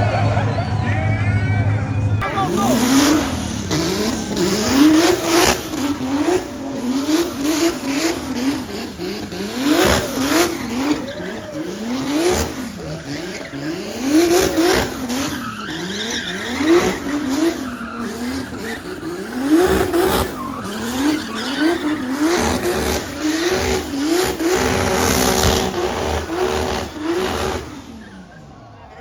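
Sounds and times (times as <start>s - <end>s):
tyres squealing: 0.0s - 29.0s
car engine revving hard: 2.2s - 28.6s.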